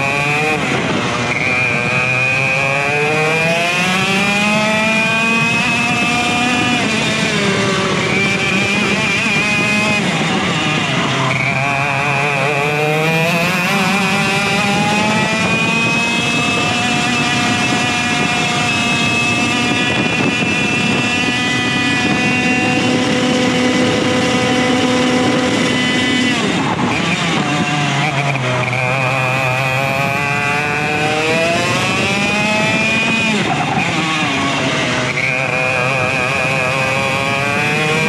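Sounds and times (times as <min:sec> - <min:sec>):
kart engine at racing speed: 0:00.0 - 0:38.0
wind rush on microphone: 0:00.0 - 0:38.0.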